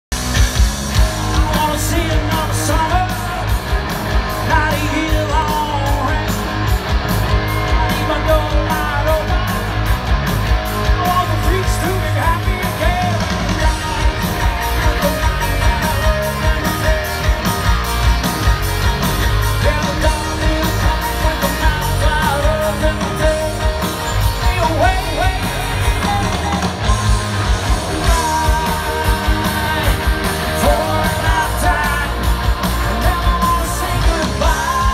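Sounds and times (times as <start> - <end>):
live rock band playing: 0.1 - 34.9
person singing: 1.1 - 3.6, 4.3 - 6.5, 7.4 - 9.7, 10.8 - 17.7, 19.4 - 34.9.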